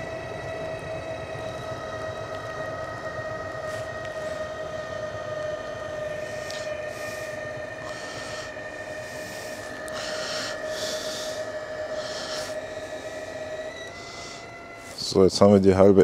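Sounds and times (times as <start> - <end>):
motorized legs mechanical whine: 0.0 - 16.0.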